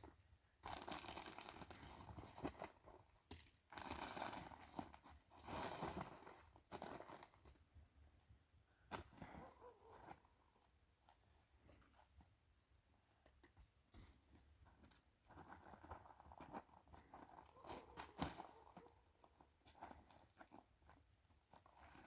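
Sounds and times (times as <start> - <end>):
faint crunching and rustling: 0.0 - 22.0.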